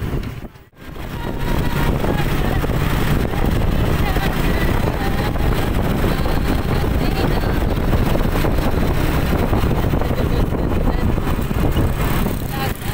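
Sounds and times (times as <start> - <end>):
vehicle and road noise: 0.0 - 12.9
wind buffeting microphone: 0.0 - 12.9.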